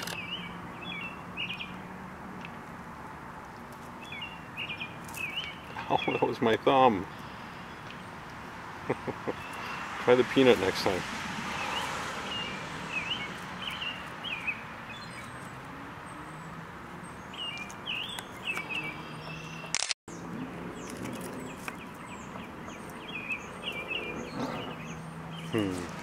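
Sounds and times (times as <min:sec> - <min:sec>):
small birds chirping: 0:00.0 - 0:01.8, 0:03.6 - 0:26.0
outdoor background noise: 0:00.0 - 0:26.0.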